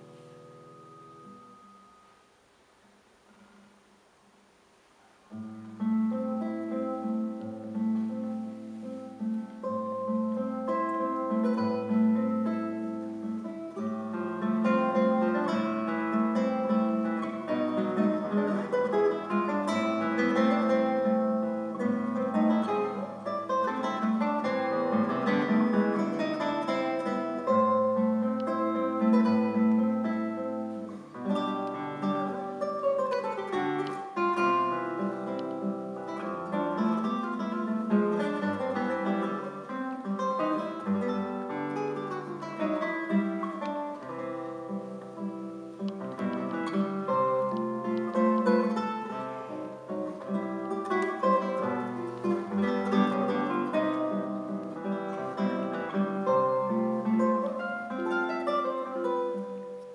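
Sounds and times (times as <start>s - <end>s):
fingerstyle classical guitar: 0.0s - 59.9s.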